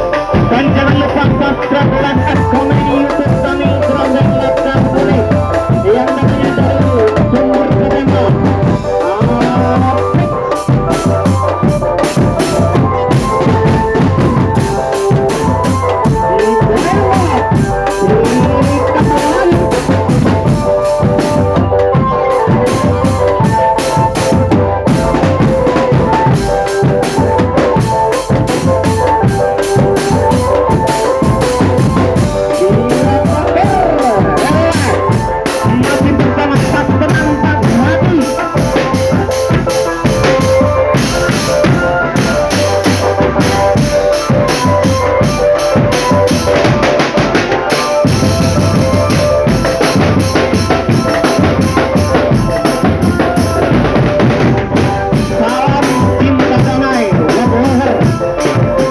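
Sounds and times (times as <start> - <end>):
snare and bass drums: 0.0 - 58.9
sustained melody line: 0.0 - 58.9.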